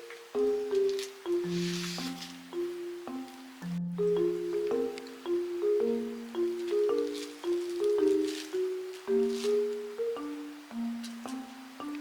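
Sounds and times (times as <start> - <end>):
gentle mallet melody: 0.0 - 12.0.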